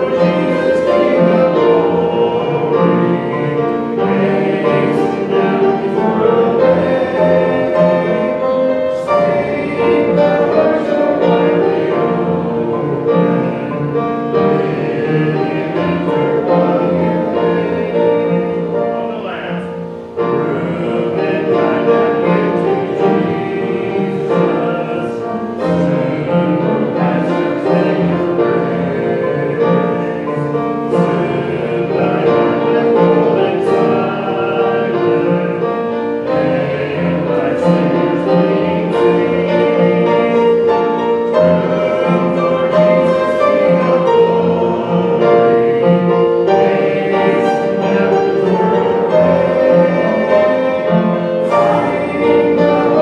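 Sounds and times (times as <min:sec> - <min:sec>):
congregation singing a hymn: 0:00.0 - 0:53.0
piano accompaniment: 0:00.0 - 0:53.0.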